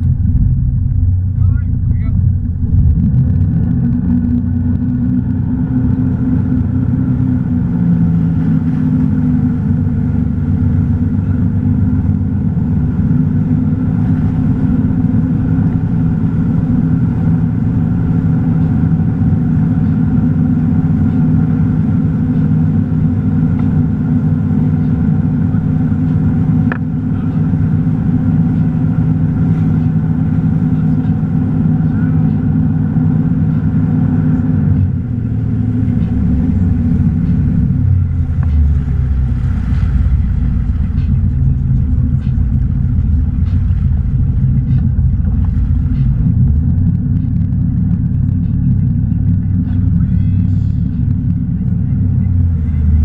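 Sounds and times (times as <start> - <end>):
boat engine running: 0.0 - 53.0
water rushing and churning: 0.0 - 53.0.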